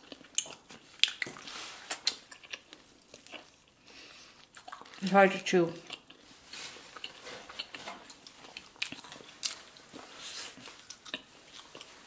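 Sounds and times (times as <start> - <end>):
chewing and eating: 0.0 - 12.0.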